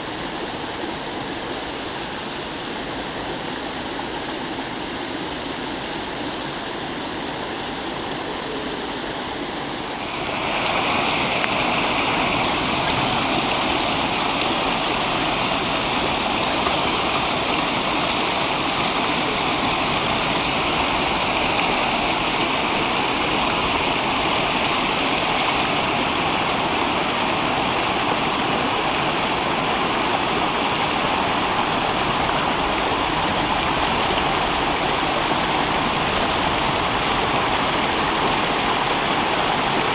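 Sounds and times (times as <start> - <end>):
stream splashing over rocks: 7.7 - 39.9.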